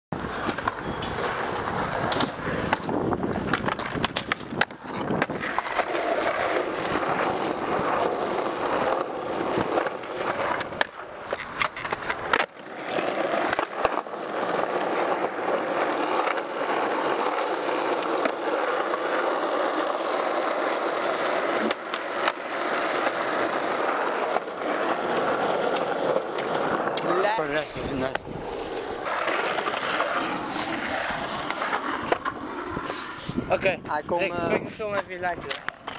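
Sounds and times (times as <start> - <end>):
skateboard wheels rolling on concrete: 0.1 - 35.9
skateboard clacking: 0.2 - 33.2, 34.9 - 35.9.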